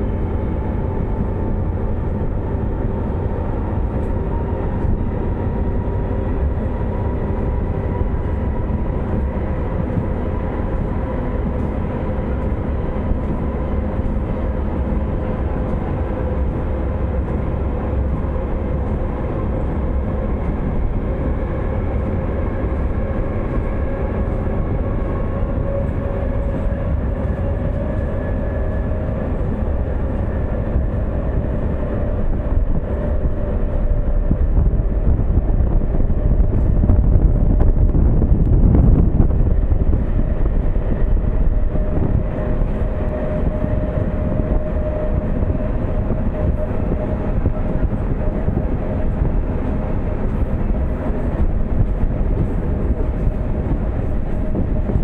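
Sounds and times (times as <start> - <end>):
train rumbling on track: 0.0 - 55.0.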